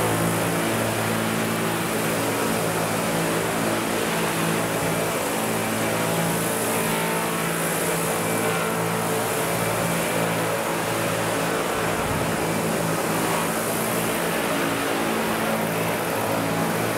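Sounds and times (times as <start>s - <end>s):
model helicopter rotors humming: 0.0s - 16.9s.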